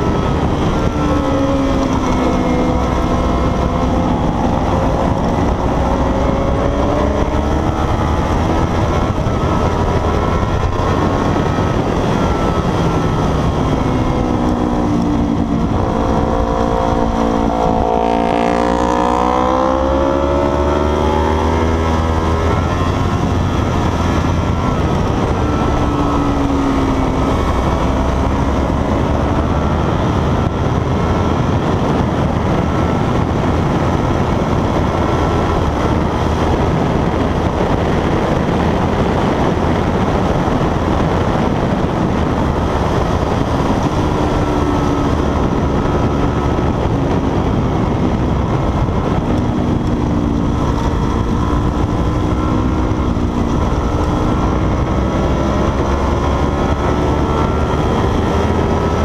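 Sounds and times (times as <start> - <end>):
heavy wind rush: 0.0 - 59.0
motorcycle engine: 0.0 - 59.0.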